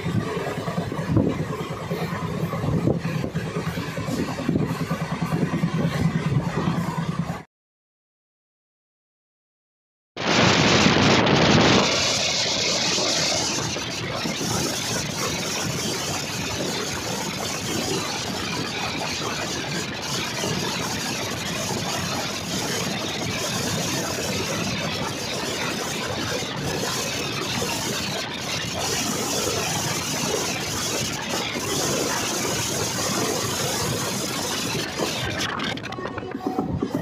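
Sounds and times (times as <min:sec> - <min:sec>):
train running on track: 0:00.0 - 0:07.4, 0:10.2 - 0:37.0.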